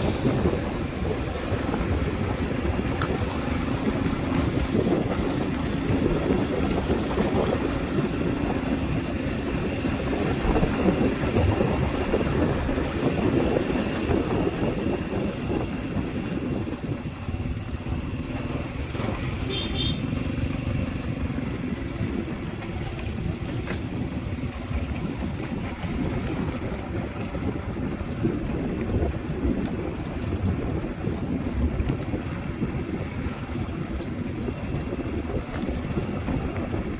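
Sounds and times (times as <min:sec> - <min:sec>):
motorbike engine running: 0:00.0 - 0:36.9
wind and road noise: 0:00.0 - 0:36.9.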